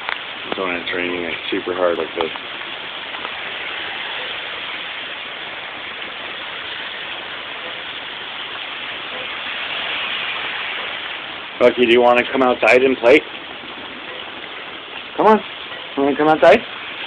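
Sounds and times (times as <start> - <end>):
heavy rain splashing on pavement: 0.0 - 17.0.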